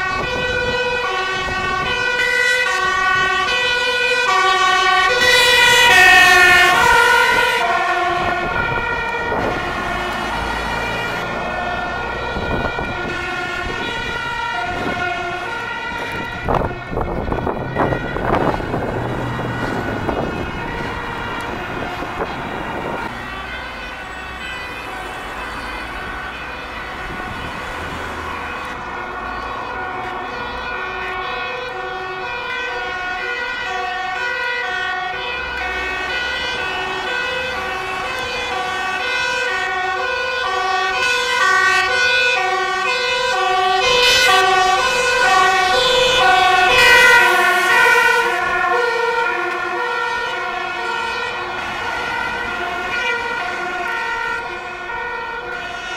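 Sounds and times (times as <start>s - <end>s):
truck engine and road noise: 0.0s - 55.9s
two-tone fire engine siren: 0.0s - 55.9s.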